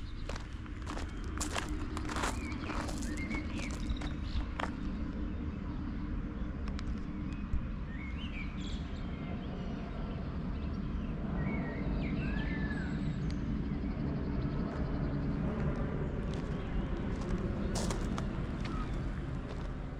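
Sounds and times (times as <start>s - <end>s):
birds chirping: 0.0s - 19.9s
low background rumble: 0.0s - 19.9s.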